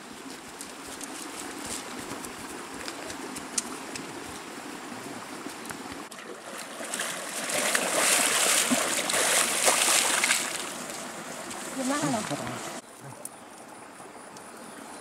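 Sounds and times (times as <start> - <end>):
people wading through water: 0.0 - 13.6.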